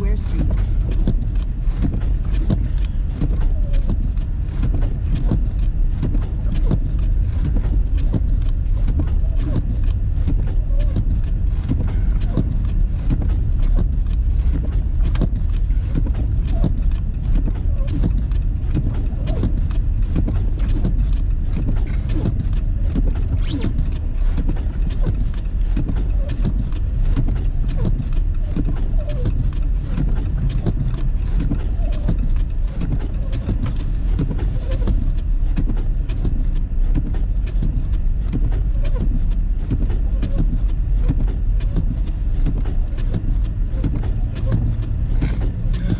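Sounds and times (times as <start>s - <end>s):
road and engine rumble: 0.0s - 45.9s.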